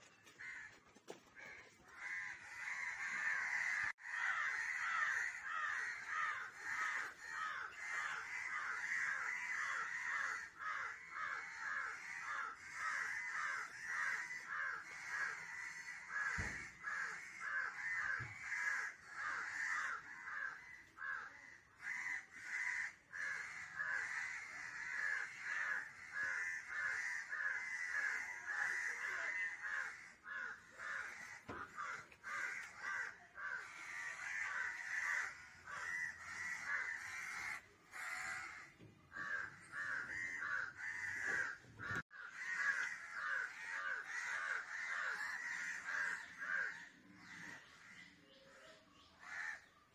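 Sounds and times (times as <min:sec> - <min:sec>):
crows cawing: 0:00.0 - 0:49.9.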